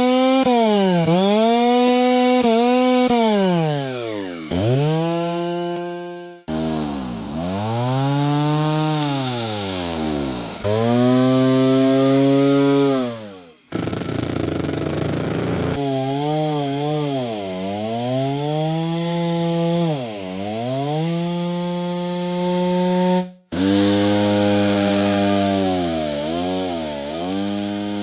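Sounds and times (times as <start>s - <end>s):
chainsaw engine revving: 0.0s - 28.0s.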